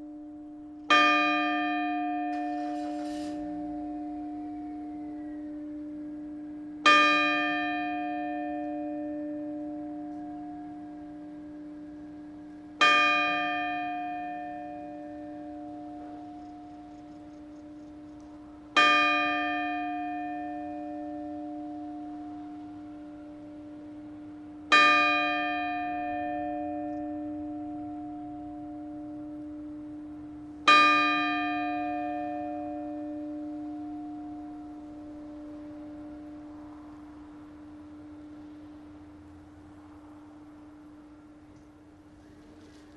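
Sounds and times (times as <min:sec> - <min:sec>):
church bell tolling: 0:00.0 - 0:39.6.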